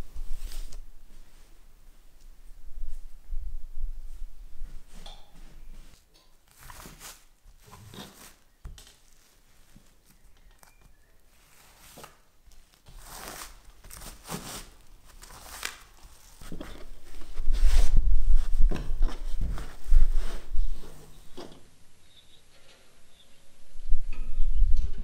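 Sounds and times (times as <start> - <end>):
plastic and fabric rustling: 0.0 - 3.2, 4.0 - 21.5.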